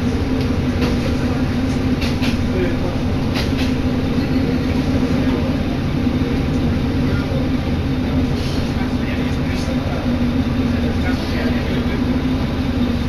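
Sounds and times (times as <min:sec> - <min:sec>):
railcar engine drone: 0:00.0 - 0:13.0.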